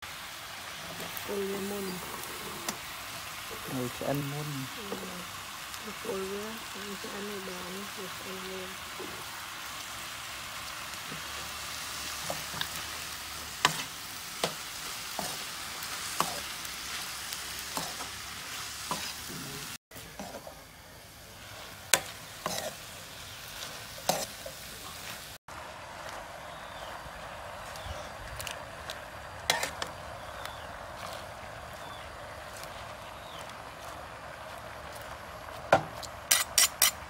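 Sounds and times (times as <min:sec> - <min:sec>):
food sizzling in a wok: 0:00.0 - 0:37.0.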